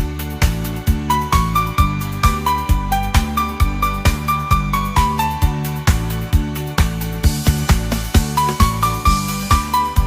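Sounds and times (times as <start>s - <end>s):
cheerful instrumental christmas music: 0.0s - 10.0s.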